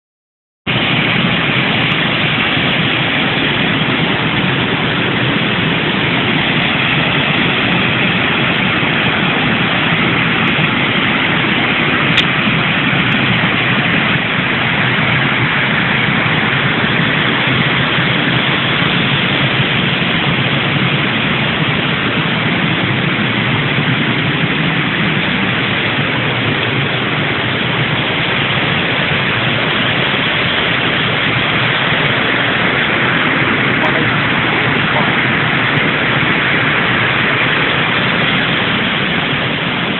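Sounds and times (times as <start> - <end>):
waterfall rushing: 0.7 - 39.9.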